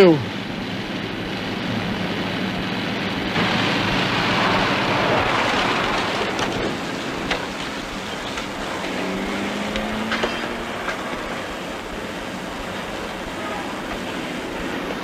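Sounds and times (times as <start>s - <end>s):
car engine and road noise: 0.0s - 15.0s
rushing noise: 0.0s - 15.0s.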